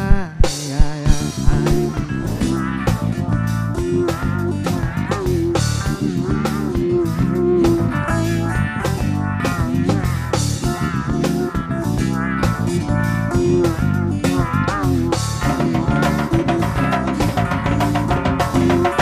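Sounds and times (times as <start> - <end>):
instrumental rock blues music: 0.0 - 19.0.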